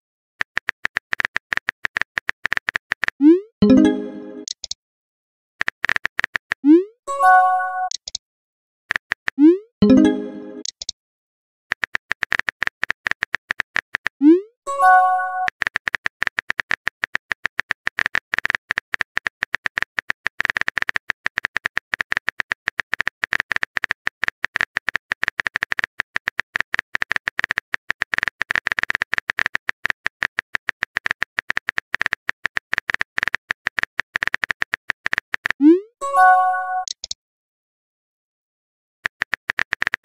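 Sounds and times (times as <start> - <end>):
keyboard typing clicks: 0.4 - 4.8, 5.6 - 8.2, 8.9 - 11.0, 11.7 - 37.2, 39.0 - 40.0.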